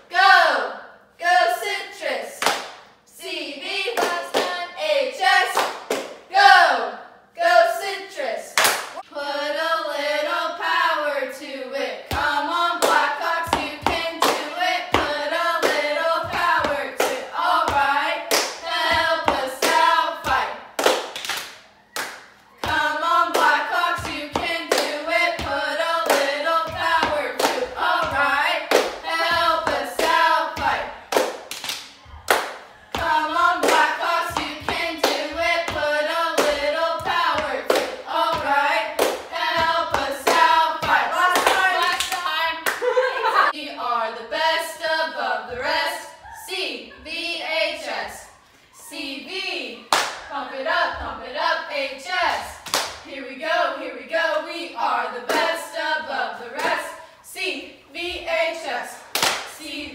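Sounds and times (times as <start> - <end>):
girls chanting a cheer: 0.0 - 2.5, 3.1 - 20.6, 22.0 - 59.9.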